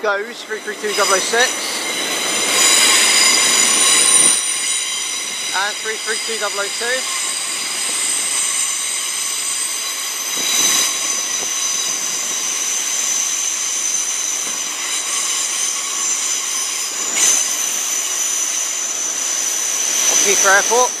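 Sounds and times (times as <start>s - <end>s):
electric train whine: 0.0s - 21.0s
train running noise: 0.0s - 21.0s.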